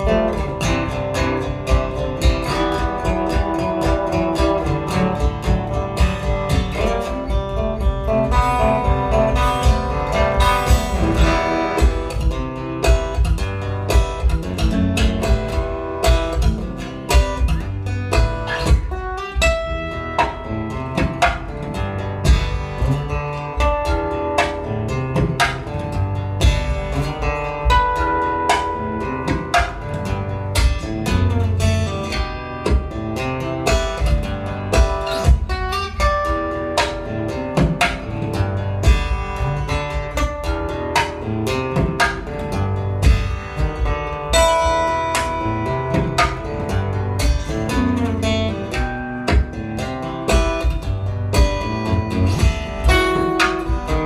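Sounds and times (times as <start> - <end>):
fingerstyle acoustic guitar: 0.0 - 54.0
percussive guitar thumps: 0.0 - 54.0.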